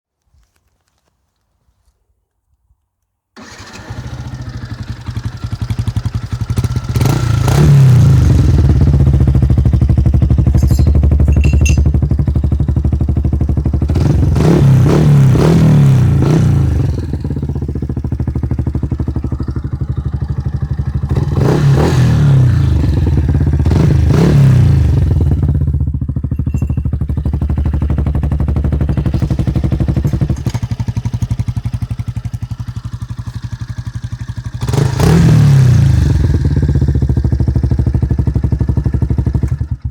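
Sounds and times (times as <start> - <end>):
motorcycle engine idling and revving: 3.4 - 39.9.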